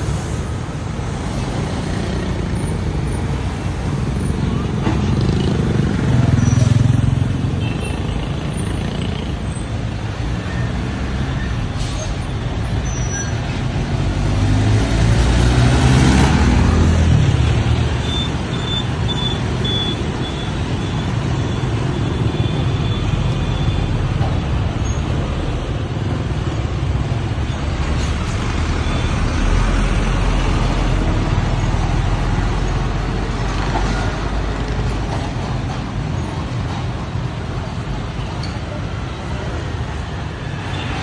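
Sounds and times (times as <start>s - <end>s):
motorbikes passing: 0.0s - 10.3s, 13.6s - 41.0s
truck engines passing: 0.0s - 41.0s.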